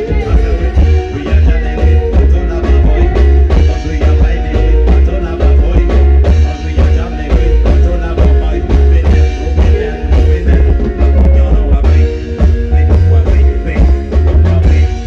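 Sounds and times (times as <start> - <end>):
loud music with heavy bass: 0.0 - 15.0.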